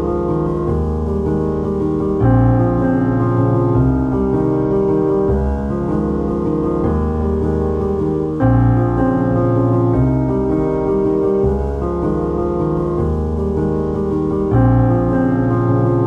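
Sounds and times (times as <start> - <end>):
sustained instrumental chords: 0.0 - 16.0.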